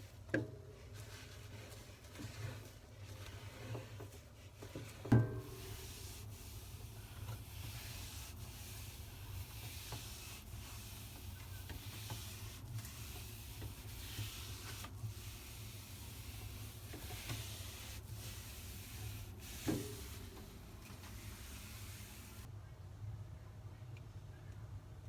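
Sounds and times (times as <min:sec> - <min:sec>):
sponge scrubbing: 0:00.8 - 0:22.5.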